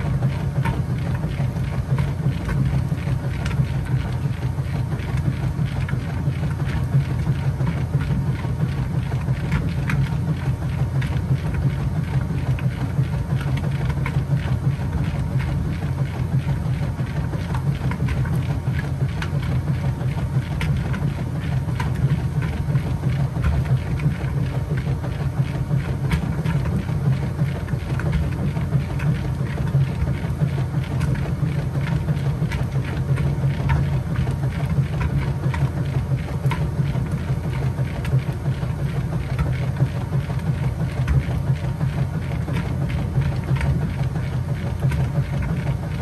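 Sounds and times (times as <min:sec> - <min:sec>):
washing machine agitating: 0:00.0 - 0:46.0.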